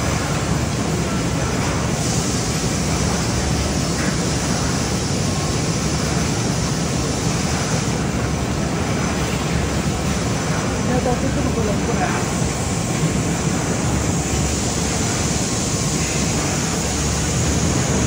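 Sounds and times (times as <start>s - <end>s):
mixing machine rumble: 0.0s - 18.0s.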